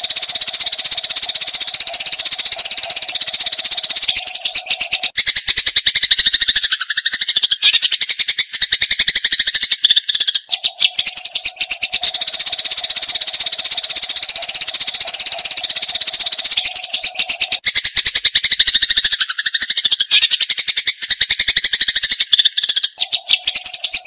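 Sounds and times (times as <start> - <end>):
sparrows chirping agitatedly: 0.0 - 24.0.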